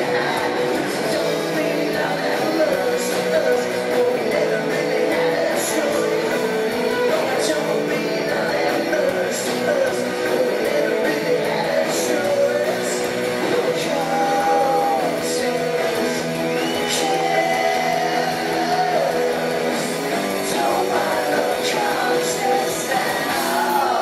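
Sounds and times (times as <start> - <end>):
electric guitar: 0.0 - 24.0
man singing: 0.0 - 24.0.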